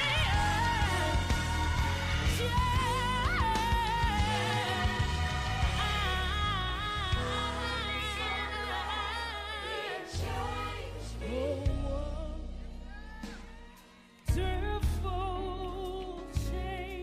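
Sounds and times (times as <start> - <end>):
band with bass line: 0.0 - 9.1, 10.2 - 17.0
gospel singing: 0.0 - 17.0.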